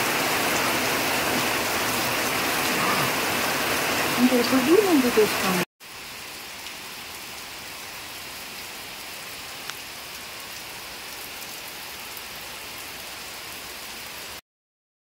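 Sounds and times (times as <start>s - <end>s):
heavy rain pouring: 0.0s - 14.4s.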